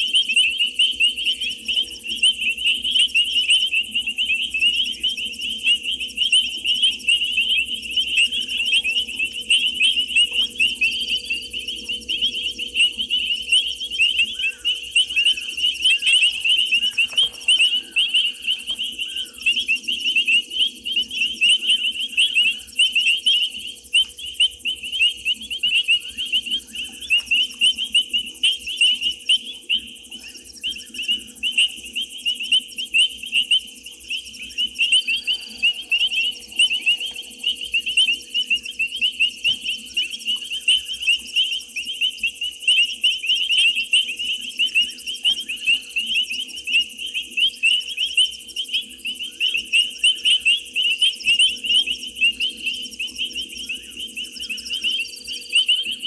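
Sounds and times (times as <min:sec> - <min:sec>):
animals chirping: 0:00.0 - 0:56.0
faint steady hum: 0:00.0 - 0:56.0.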